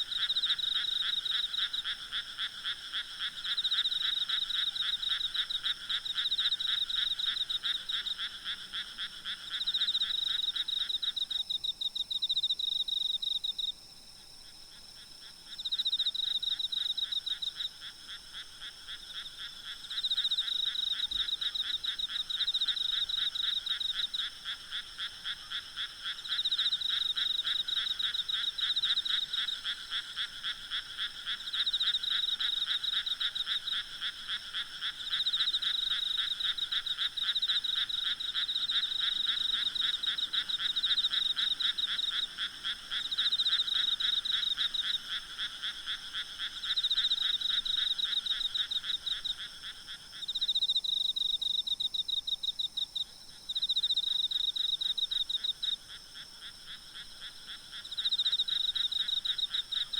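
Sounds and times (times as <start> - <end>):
frogs trilling: 0.0 - 13.6, 15.2 - 59.9
faint insect hum: 0.0 - 59.9.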